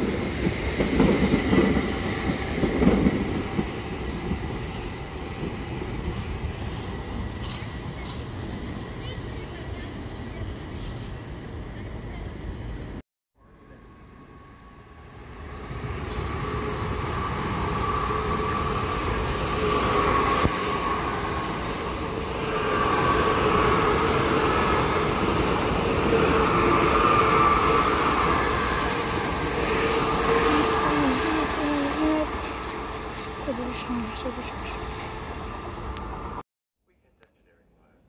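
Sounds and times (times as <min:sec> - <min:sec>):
electric train rumbling past: 0:00.0 - 0:36.4.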